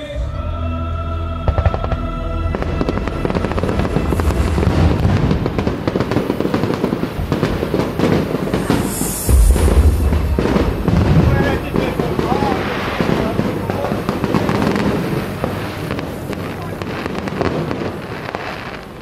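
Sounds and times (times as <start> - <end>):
fireworks crackling: 1.5 - 19.0
low firework booms: 1.5 - 19.0.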